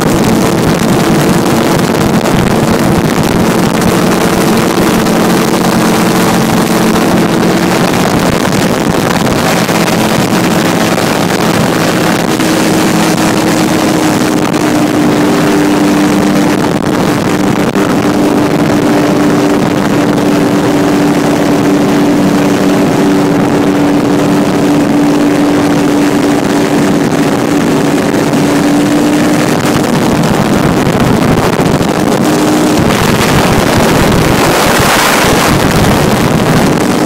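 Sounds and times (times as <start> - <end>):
ultralight aircraft engine: 0.0 - 37.0
wind rush on microphone: 0.0 - 37.0.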